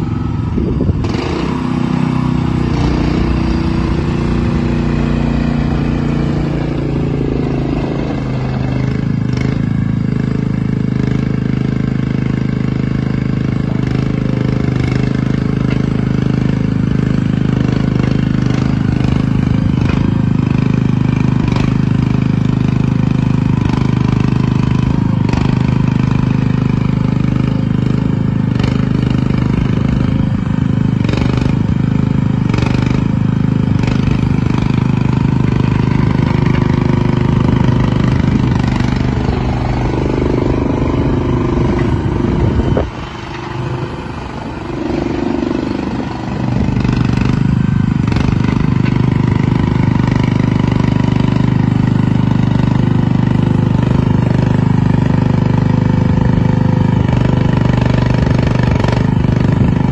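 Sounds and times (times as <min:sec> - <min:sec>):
loader engine running: 0:00.0 - 0:59.9.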